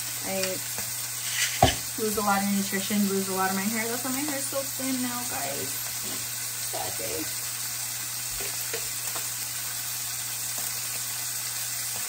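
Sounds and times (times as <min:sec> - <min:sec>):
chicken sizzling in a skillet: 0:00.0 - 0:12.0
kitchen fan hum: 0:00.0 - 0:12.0.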